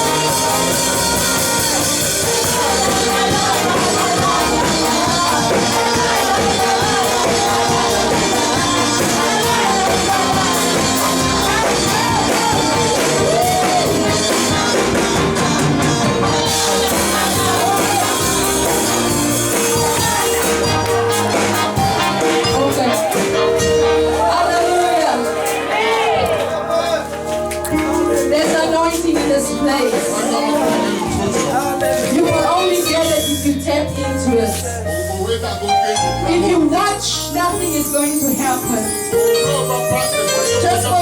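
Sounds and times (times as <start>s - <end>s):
band playing held chords: 0.0s - 41.0s
congregation singing: 0.0s - 41.0s.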